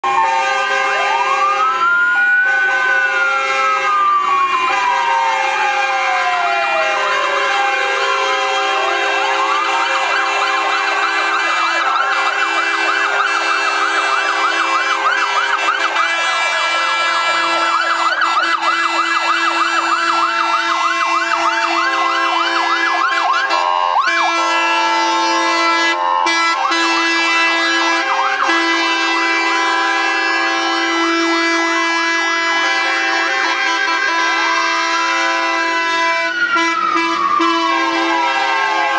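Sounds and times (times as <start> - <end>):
siren wail: 0.0 - 38.9
siren yelp: 0.0 - 38.9.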